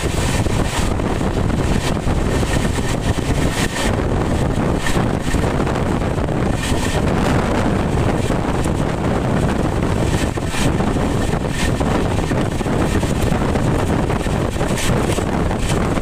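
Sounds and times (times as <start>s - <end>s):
rushing wind: 0.0s - 16.0s
train rumble: 0.0s - 16.0s.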